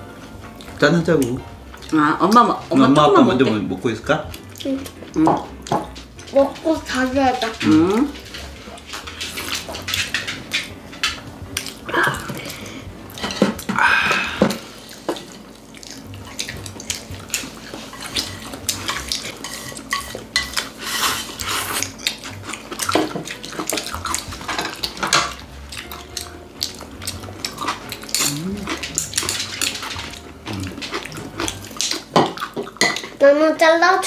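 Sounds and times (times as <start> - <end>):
utensils clinking on dishes: 0.5 - 33.3
chewing and slurping: 4.3 - 33.2.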